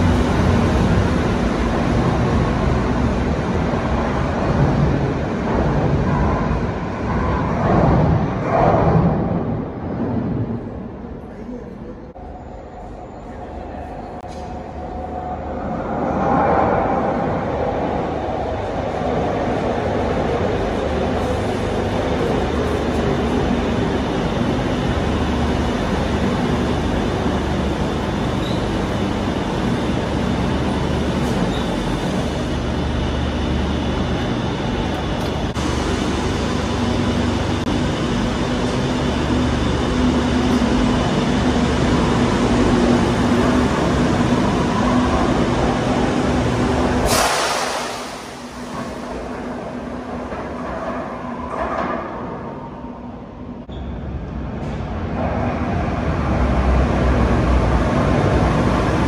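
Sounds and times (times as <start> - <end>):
approaching metro train: 0.0 - 59.0
metro train rumbling: 0.0 - 59.0.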